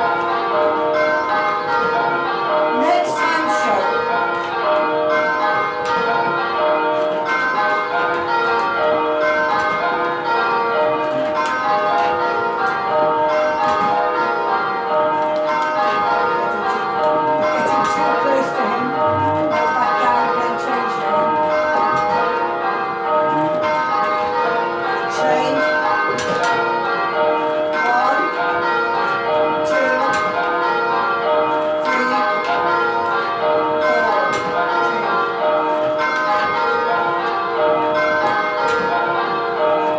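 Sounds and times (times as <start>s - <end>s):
tower bells change ringing: 0.0s - 39.9s.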